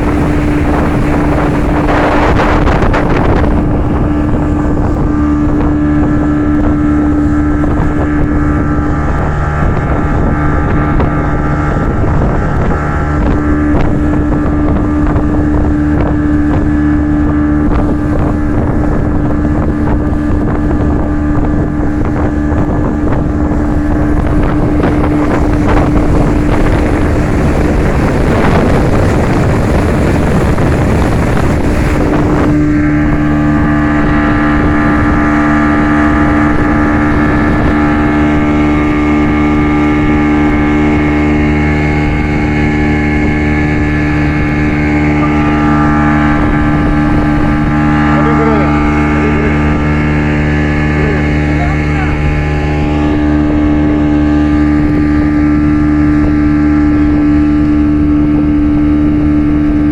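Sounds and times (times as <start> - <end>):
rushing water: 0.0 - 59.9
speedboat motor running: 0.0 - 59.9
wind on microphone: 0.0 - 59.9.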